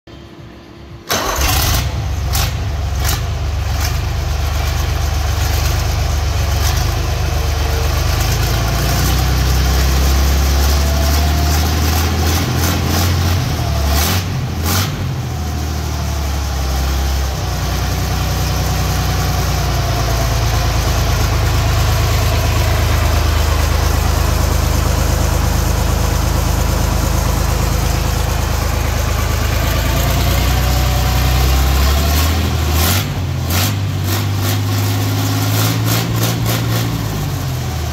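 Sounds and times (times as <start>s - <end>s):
diesel engine idling: 0.7s - 37.9s.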